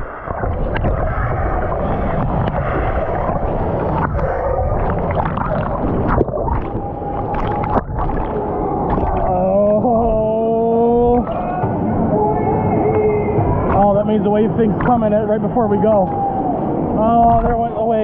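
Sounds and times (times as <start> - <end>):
churning water rushing: 0.0 - 18.0
water splashes: 0.0 - 18.0.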